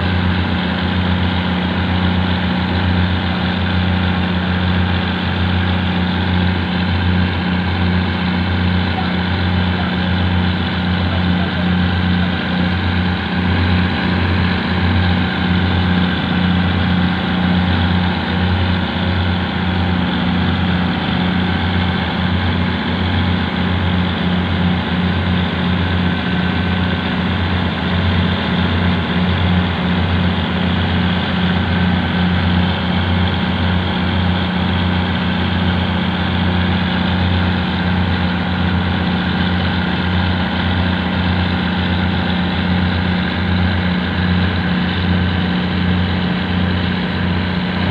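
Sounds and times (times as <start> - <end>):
boat diesel engine throbbing: 0.0 - 47.9.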